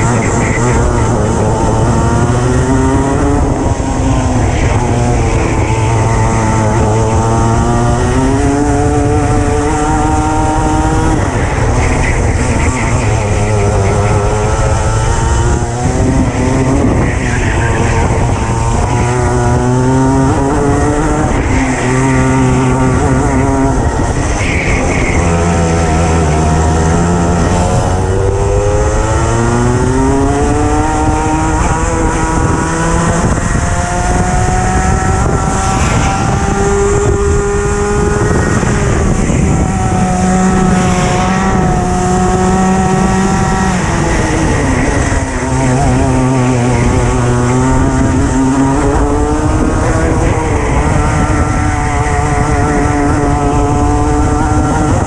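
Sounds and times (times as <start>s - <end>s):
kart engine accelerating: 0.0s - 55.0s.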